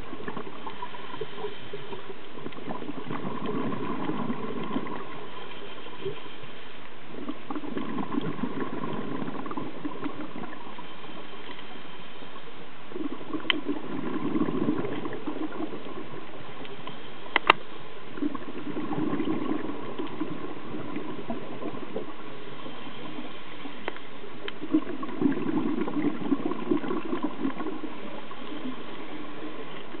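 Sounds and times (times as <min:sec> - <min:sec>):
gurgling exhaled bubbles: 0:00.0 - 0:06.2, 0:07.1 - 0:10.9, 0:12.9 - 0:16.7, 0:18.0 - 0:23.7, 0:24.3 - 0:30.0.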